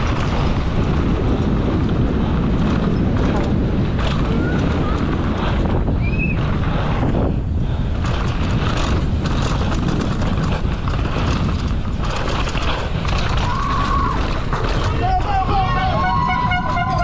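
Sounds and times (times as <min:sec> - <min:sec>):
bike chain and frame rattling: 0:00.0 - 0:17.0
tyres rushing on dirt: 0:00.0 - 0:17.0
wind buffeting microphone: 0:00.0 - 0:17.0.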